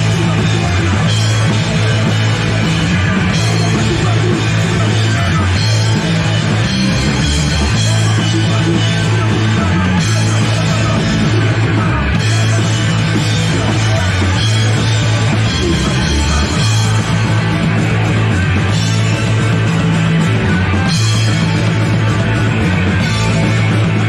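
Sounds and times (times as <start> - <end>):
bass guitar: 0.0 - 24.0
drums: 0.0 - 24.0
electric guitar: 0.0 - 24.0.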